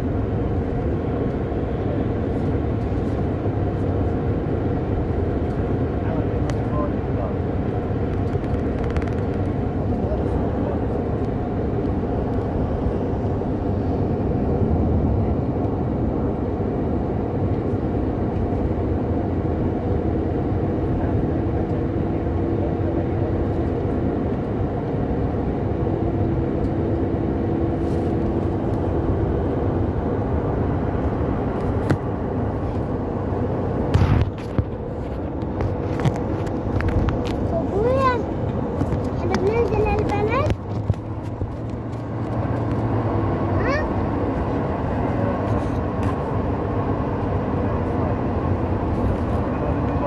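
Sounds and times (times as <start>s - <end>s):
road and engine noise in car: 0.0s - 50.0s.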